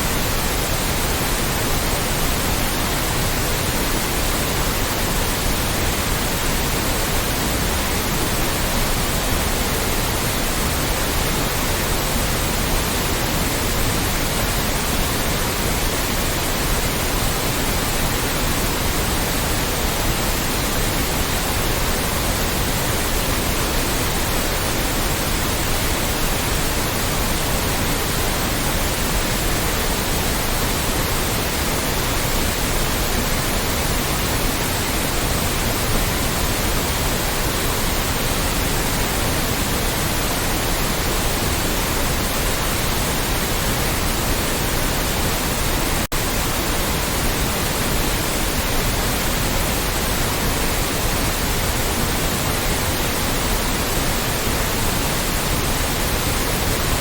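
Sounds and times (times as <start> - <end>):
synthetic white noise hiss: 0.0 - 57.0.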